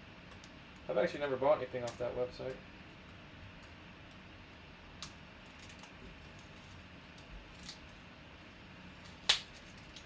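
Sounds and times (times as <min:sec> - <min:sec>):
low room noise: 0:00.0 - 0:10.0.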